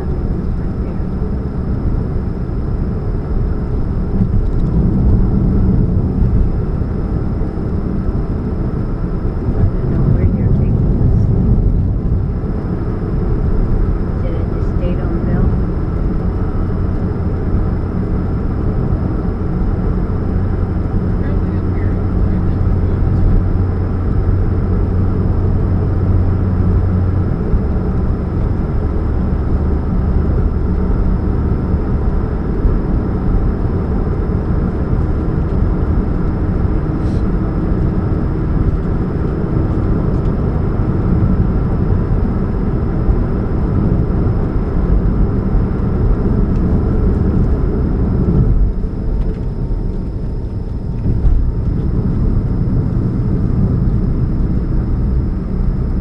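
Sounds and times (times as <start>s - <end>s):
car engine humming and rumbling: 0.0s - 56.0s.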